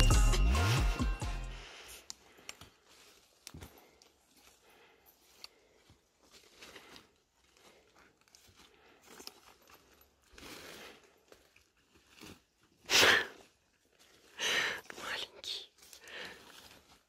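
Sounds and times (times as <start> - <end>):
footsteps crunching dry branches: 2.1 - 17.0.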